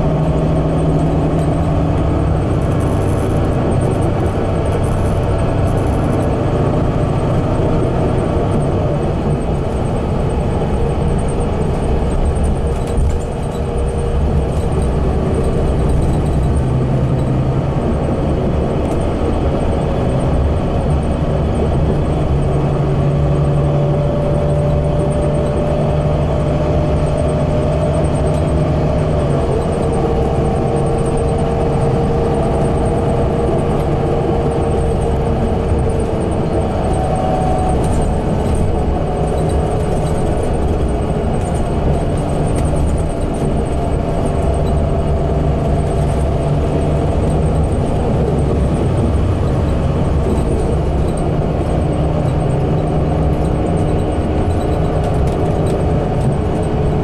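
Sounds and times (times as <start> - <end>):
bus engine drone: 0.0 - 57.0
road rumble: 0.0 - 57.0.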